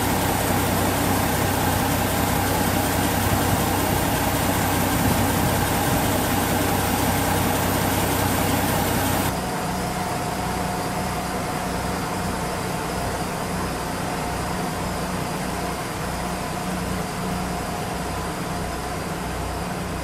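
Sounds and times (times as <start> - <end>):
diesel railcar idling: 0.0 - 19.9.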